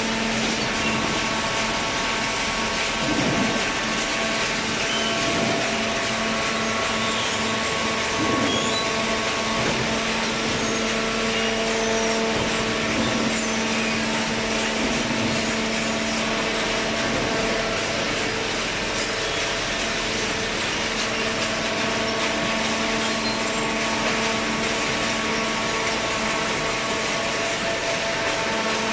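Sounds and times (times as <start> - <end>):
hydraulic machine hum: 0.0 - 28.9.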